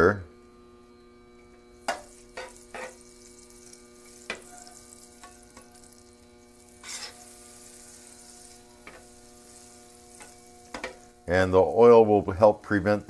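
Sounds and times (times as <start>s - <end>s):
electrical hum: 0.0s - 13.0s
butter sizzling on a griddle: 1.6s - 13.0s.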